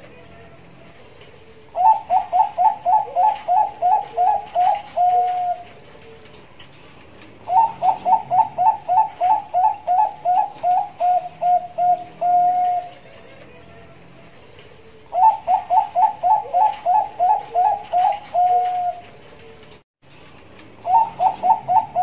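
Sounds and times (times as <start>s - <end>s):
dove cooing: 0.4s - 6.6s, 7.3s - 19.8s, 20.8s - 22.0s.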